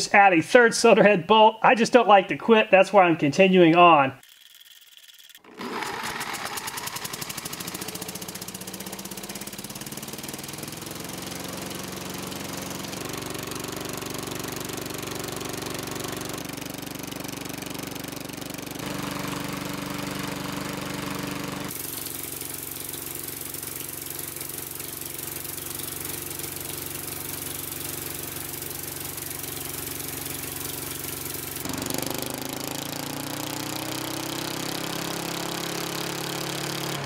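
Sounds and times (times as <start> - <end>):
lawn mower engine running: 4.2 - 37.0.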